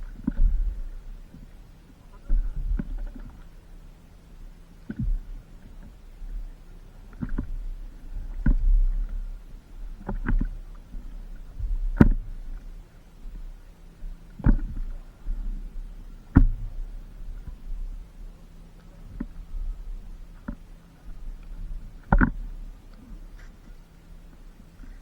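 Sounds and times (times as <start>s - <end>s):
paddle strokes in water: 0.0s - 25.0s
steady low rumble: 0.0s - 25.0s.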